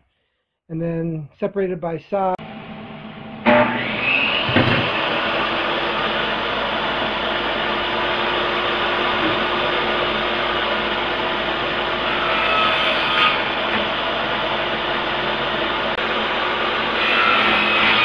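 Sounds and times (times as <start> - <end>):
table saw cutting wood: 2.4 - 18.0.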